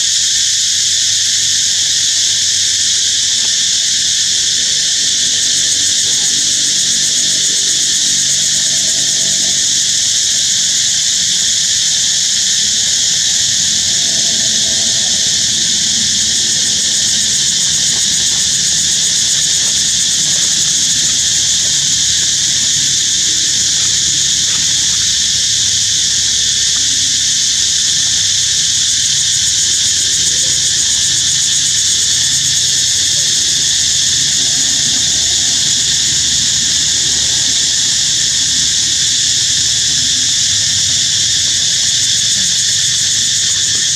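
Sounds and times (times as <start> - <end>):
insects chorus drone: 0.0 - 43.9.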